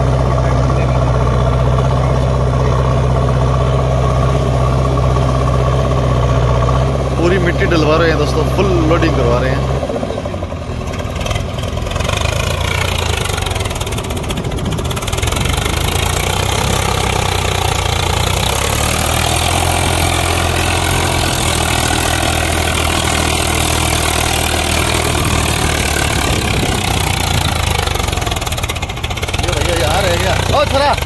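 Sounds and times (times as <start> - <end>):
backhoe loader diesel engine: 0.0 - 31.0
tractor engine running: 0.0 - 31.0.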